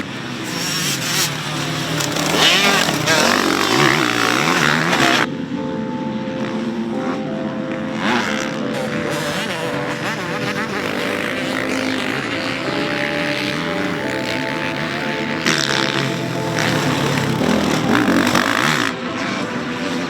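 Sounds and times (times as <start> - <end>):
motocross bike engine revving: 0.0 - 5.3, 7.9 - 20.0.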